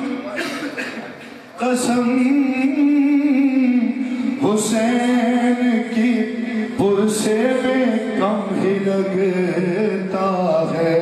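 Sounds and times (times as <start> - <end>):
man singing into microphone: 1.6 - 11.0.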